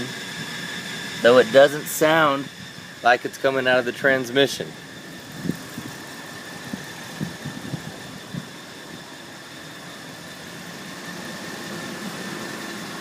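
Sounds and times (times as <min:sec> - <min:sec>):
engine idling: 0:00.0 - 0:13.0
high-pitched whine: 0:00.0 - 0:13.0.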